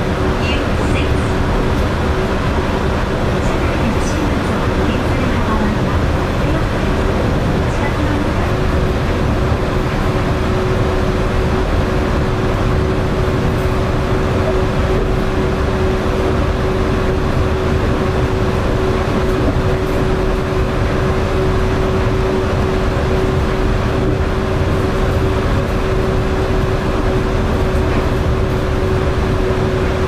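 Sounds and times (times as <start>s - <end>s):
mid-pitched drive whine: 0.0s - 30.0s
rumble of tyres on guideway: 0.0s - 30.0s.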